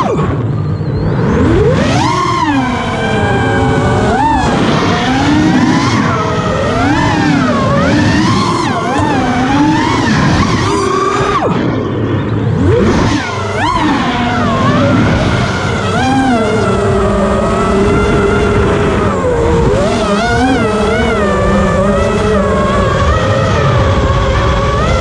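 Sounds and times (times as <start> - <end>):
quadcopter motors whining: 0.0 - 25.0
wind rush on microphone: 0.2 - 25.0.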